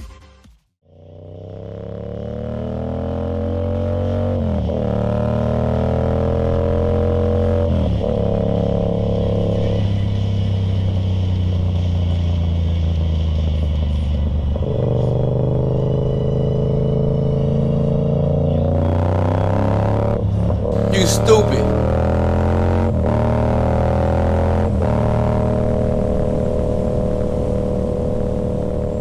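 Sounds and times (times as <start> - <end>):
motorcycle engine accelerating: 0.8 - 29.0.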